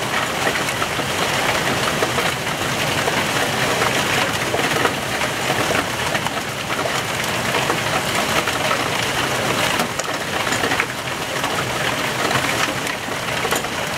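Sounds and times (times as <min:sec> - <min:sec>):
heavy rain and hail pouring: 0:00.0 - 0:13.9.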